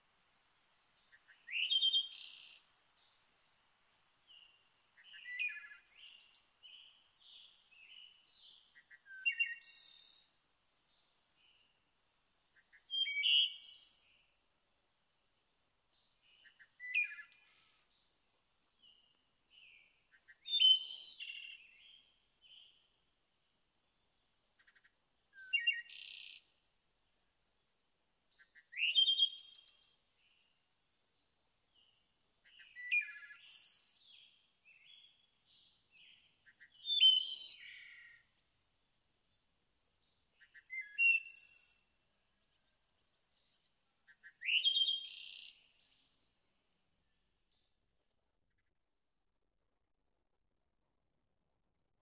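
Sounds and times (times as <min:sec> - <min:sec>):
songbird chirping: 0:00.0 - 0:48.7.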